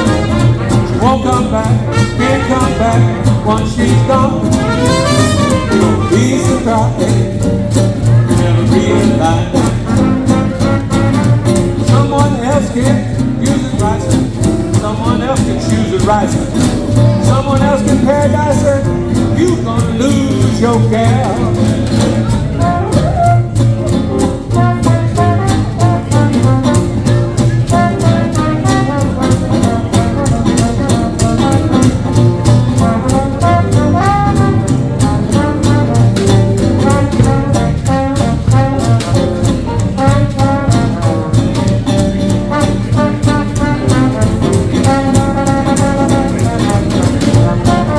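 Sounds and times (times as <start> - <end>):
brass horns: 0.0 - 13.2, 17.0 - 47.9
live swing jazz band: 0.0 - 47.9.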